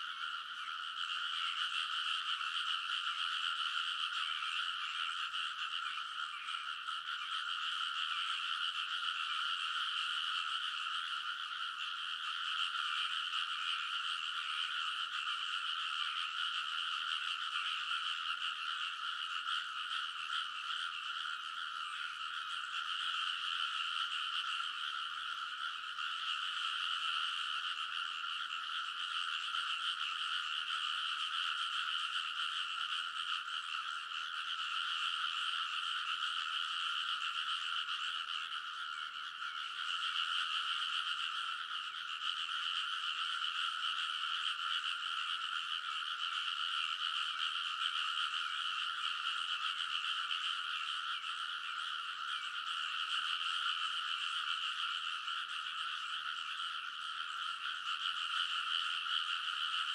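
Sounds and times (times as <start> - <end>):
frogs calling in chorus: 0.0 - 59.9.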